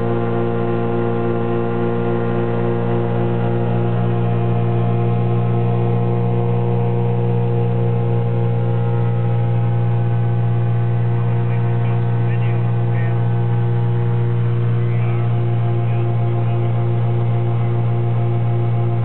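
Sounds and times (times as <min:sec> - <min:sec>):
aircraft engine in cockpit: 0:00.0 - 0:19.0.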